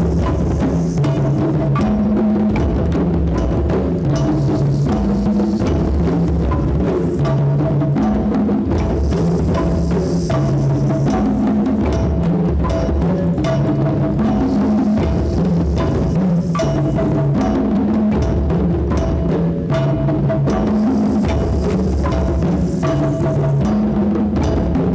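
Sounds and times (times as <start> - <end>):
hand drums playing rhythm: 0.0 - 24.9.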